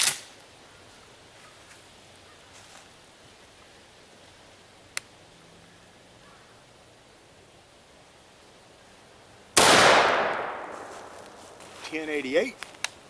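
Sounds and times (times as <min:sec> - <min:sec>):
woodland ambience: 0:00.0 - 0:13.0.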